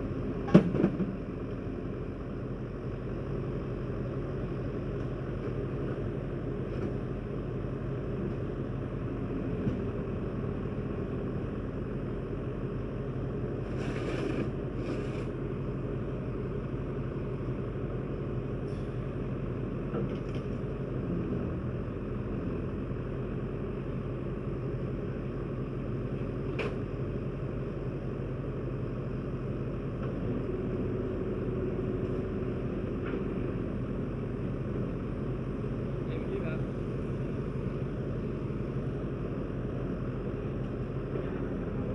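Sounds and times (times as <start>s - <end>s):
vehicle engine rumbling: 0.0s - 41.9s.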